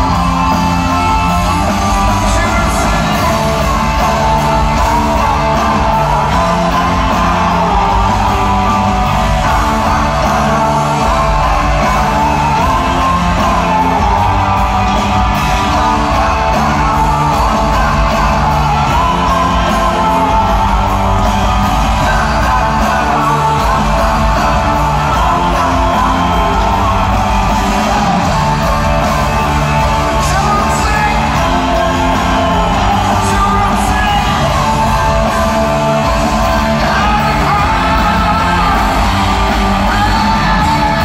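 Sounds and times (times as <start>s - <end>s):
drums: 0.0s - 41.0s
electric guitar: 0.0s - 41.0s
man singing: 0.0s - 41.0s.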